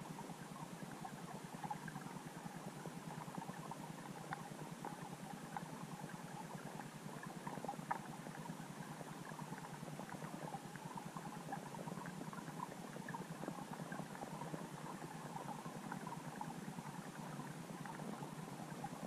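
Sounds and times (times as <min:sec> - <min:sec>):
muffled underwater hiss: 0:00.0 - 0:19.0
small underwater clicks and crackles: 0:00.0 - 0:19.0.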